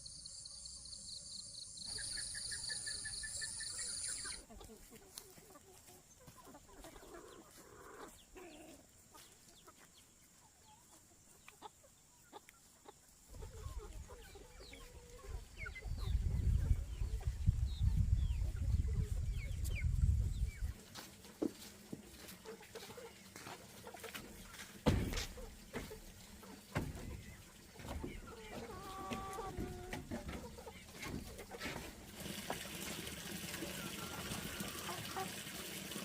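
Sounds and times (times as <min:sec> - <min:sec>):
chickens clucking: 0:01.1 - 0:36.0.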